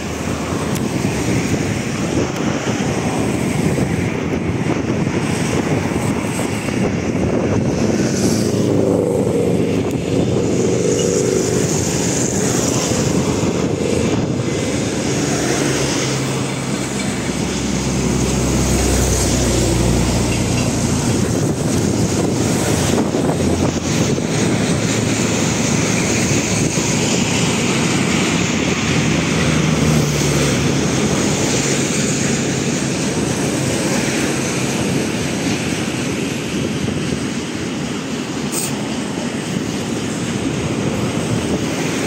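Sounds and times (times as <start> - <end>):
diesel locomotive engine drone: 0.0 - 42.0
train wagons rolling on rails: 0.0 - 42.0.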